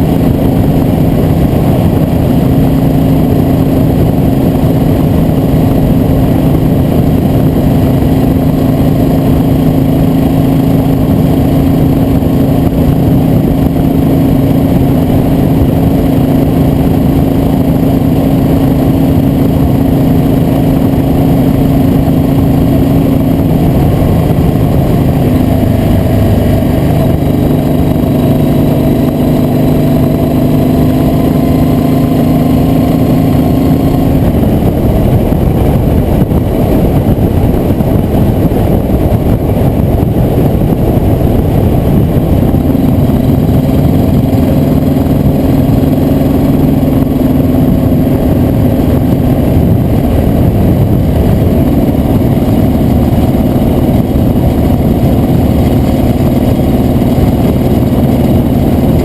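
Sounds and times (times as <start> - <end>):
loud rushing noise: 0.0 - 59.0
vehicle engine running: 0.0 - 59.0.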